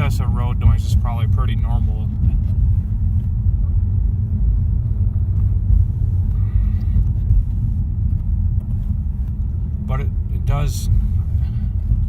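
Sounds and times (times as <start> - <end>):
low tyre road rumble in car: 0.0 - 12.0.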